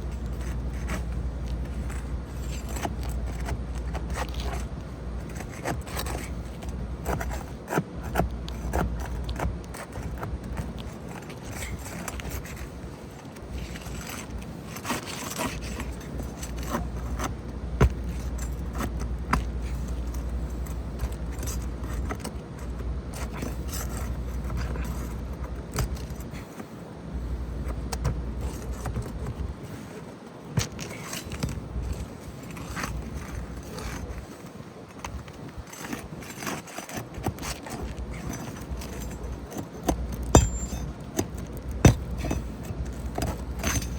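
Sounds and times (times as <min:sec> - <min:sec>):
scraping and rattling of roof shingles: 0:00.0 - 0:26.8, 0:27.4 - 0:43.9.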